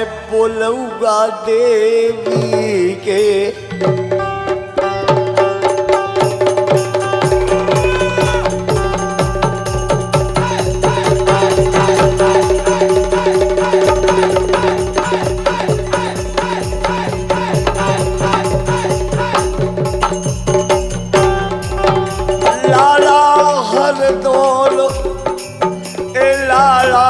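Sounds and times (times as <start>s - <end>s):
dholak and tabla drumming: 1.3s - 27.0s
held harmonium chord: 2.7s - 24.4s.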